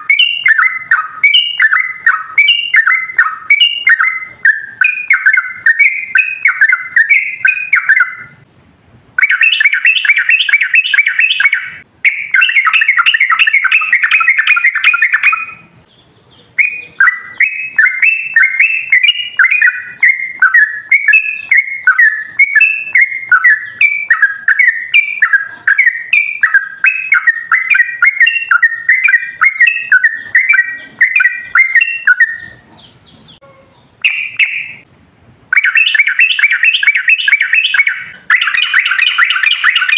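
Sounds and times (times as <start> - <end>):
bulbul chirping song: 0.0 - 8.5, 9.1 - 34.9, 35.5 - 39.9.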